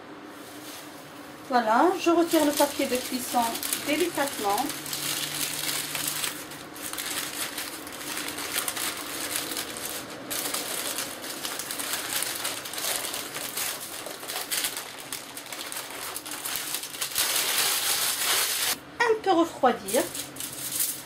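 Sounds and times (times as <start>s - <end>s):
baking parchment peeling and crackling: 1.9s - 18.8s, 19.9s - 21.0s.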